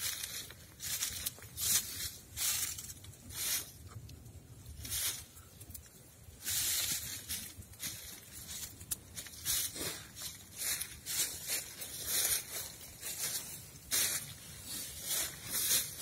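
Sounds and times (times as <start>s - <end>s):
campfire hissing: 0.0s - 16.0s.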